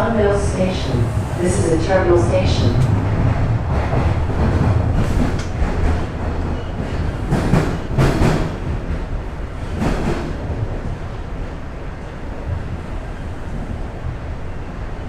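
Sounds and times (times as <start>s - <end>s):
subway train on track: 0.0s - 15.0s.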